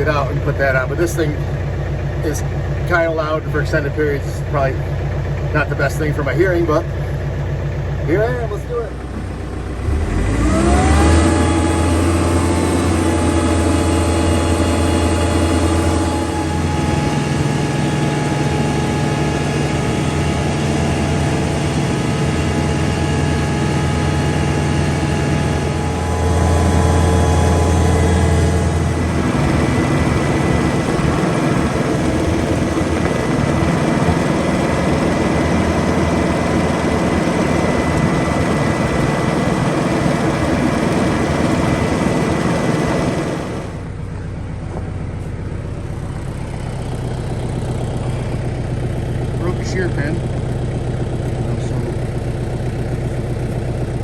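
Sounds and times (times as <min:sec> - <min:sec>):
tractor engine running: 0:00.0 - 0:54.0
snowblower through snow: 0:08.2 - 0:54.0.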